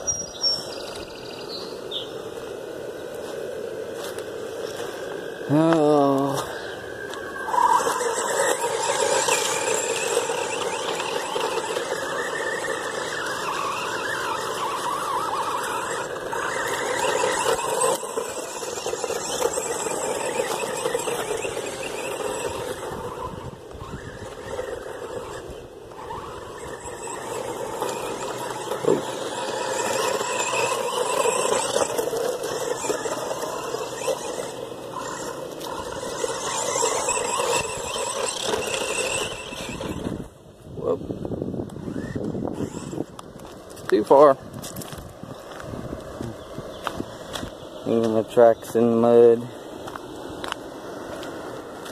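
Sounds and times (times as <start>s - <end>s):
toy car motor whining: 0.0s - 51.9s.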